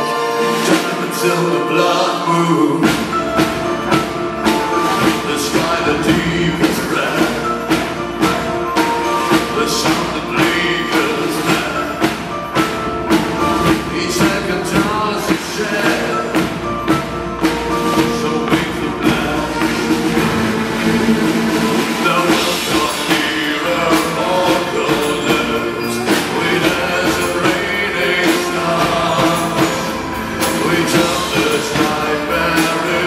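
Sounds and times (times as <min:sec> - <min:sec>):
live rock band playing: 0:00.0 - 0:33.0
steady drum beat: 0:02.6 - 0:33.0.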